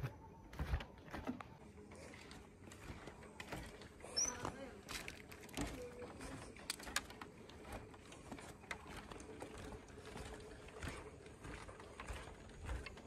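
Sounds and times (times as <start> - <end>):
footsteps on wooden planks: 0.0 - 13.0.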